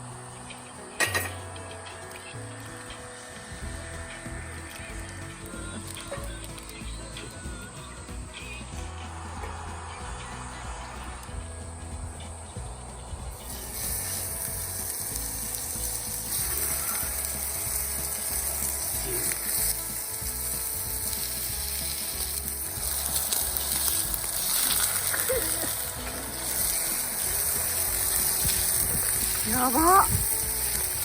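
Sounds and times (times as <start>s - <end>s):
food sizzling over campfire: 0.0s - 31.0s.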